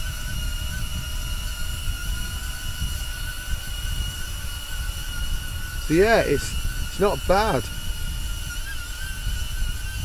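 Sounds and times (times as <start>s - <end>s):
drone propeller whine: 0.0s - 10.0s
wind buffeting microphone: 0.0s - 10.0s.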